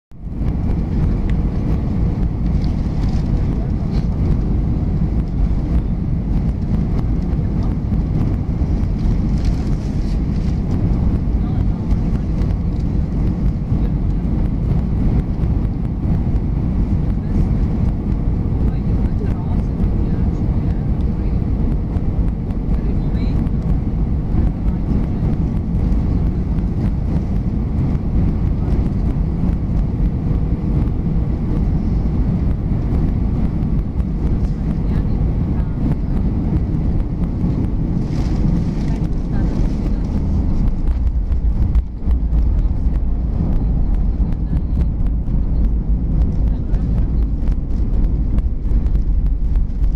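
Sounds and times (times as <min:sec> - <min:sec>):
airplane cabin airflow and engine noise: 0:00.1 - 0:49.9
rushing air: 0:00.1 - 0:49.9.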